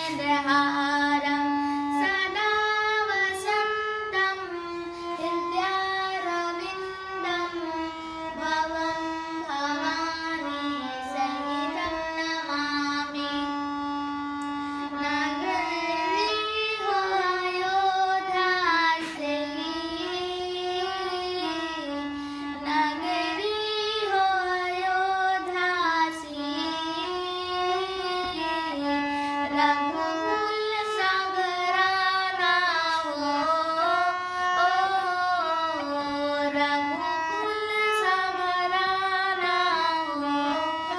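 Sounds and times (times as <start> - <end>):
child singing devotional song: 0.0 - 40.9.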